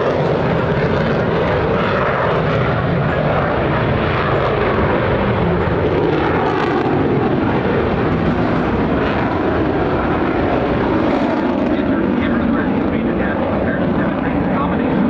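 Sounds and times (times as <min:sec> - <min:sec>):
jet engine roaring: 0:00.0 - 0:15.0.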